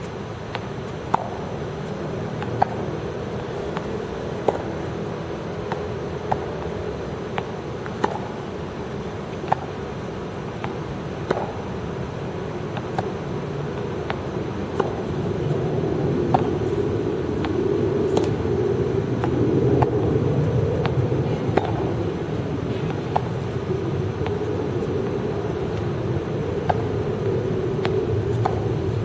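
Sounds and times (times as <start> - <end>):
low background rumble: 0.0 - 29.0
tennis balls bouncing on court: 0.4 - 29.0
tennis balls struck by rackets: 0.4 - 29.0.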